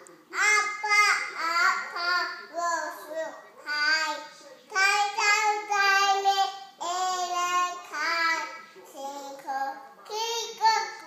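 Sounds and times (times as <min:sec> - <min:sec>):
toddler girl singing: 0:00.4 - 0:11.0.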